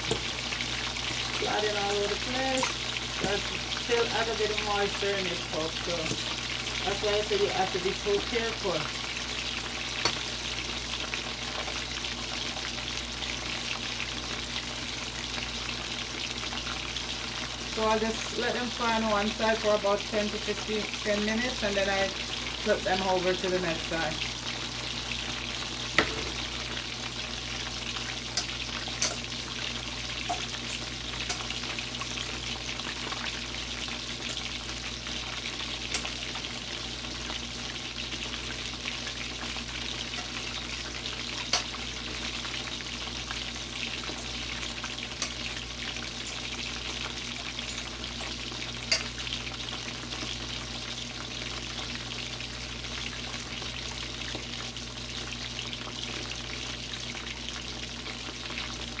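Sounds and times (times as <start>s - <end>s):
chicken sizzling in oil: 0.0s - 59.0s.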